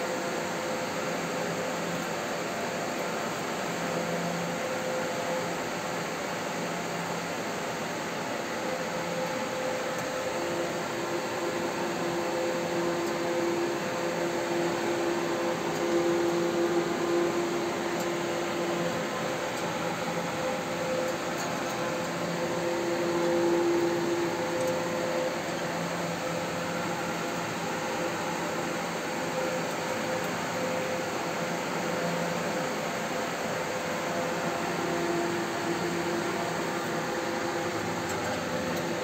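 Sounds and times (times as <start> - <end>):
machine whir and hiss: 0.0 - 39.0.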